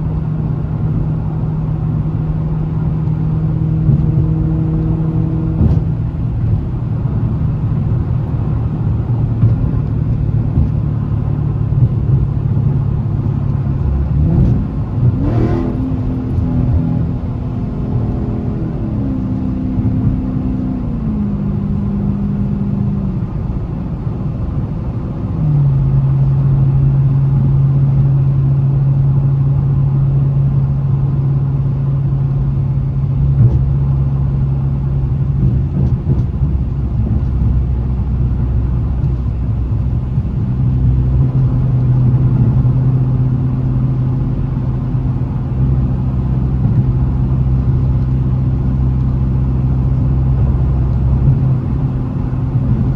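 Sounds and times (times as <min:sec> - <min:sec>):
car engine driving: 0:00.0 - 0:52.9.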